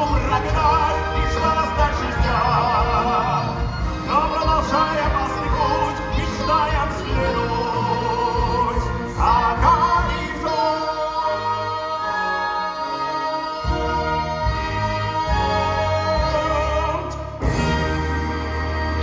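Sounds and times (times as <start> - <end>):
operatic singing: 0.0 - 19.0
orchestral backing: 0.0 - 19.0.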